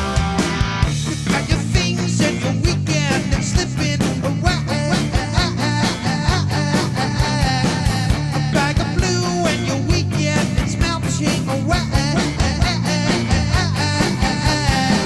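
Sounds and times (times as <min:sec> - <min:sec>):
rock music with drum beat: 0:00.0 - 0:15.0
person singing: 0:01.1 - 0:15.0.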